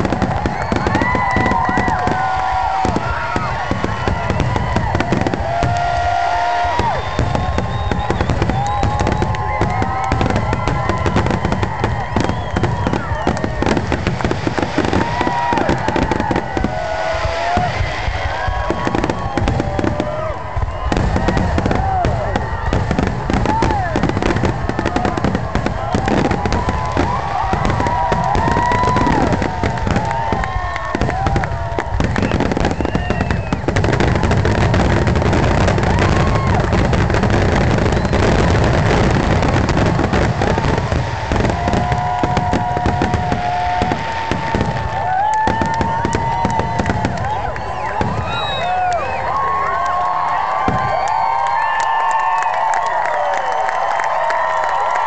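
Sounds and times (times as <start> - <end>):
fireworks booms and crackling: 0.0 - 55.0.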